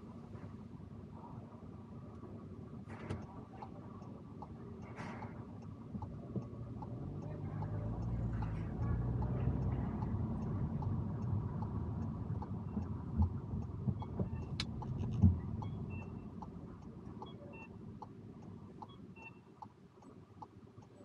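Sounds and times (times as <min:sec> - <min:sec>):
car road and engine rumble: 0:00.0 - 0:21.0
faint regular ticking: 0:02.0 - 0:21.0.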